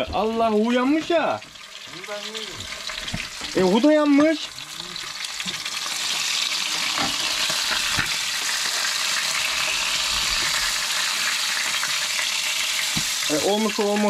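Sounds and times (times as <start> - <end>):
fish sizzling in hot oil: 0.0 - 14.0.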